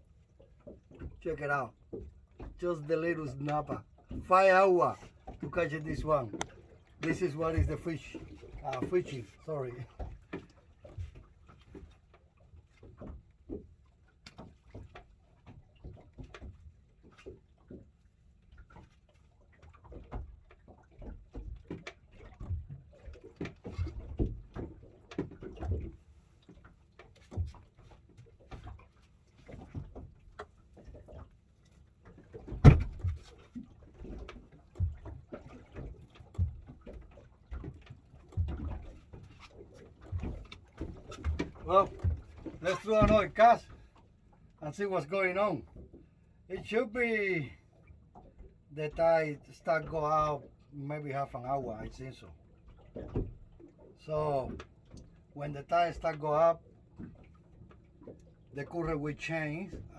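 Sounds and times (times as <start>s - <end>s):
knocks and bumps on boat: 0.0s - 44.0s, 51.6s - 59.9s.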